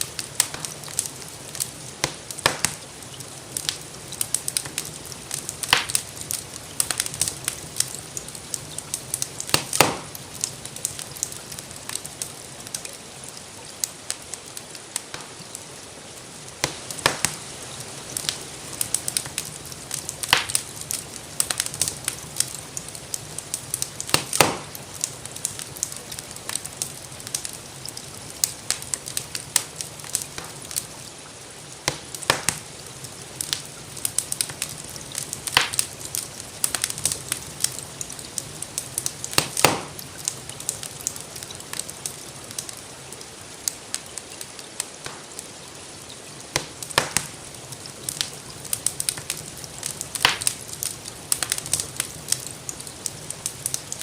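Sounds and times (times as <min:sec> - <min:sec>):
louder fire pops: 0:00.0 - 0:12.8, 0:15.0 - 0:15.5, 0:16.6 - 0:30.9, 0:31.8 - 0:42.7, 0:45.0 - 0:45.4, 0:46.5 - 0:54.0
soft hiss of rain: 0:00.0 - 0:54.0
wood fire crackling: 0:00.0 - 0:54.0.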